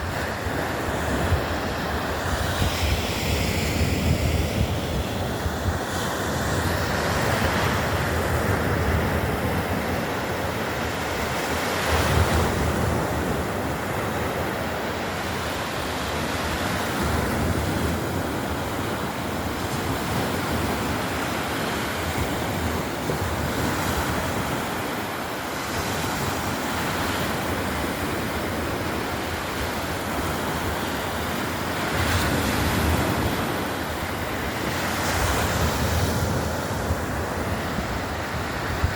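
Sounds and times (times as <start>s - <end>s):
surf washing onto shore: 0.0s - 38.9s
wind rumble on microphone: 0.0s - 38.9s.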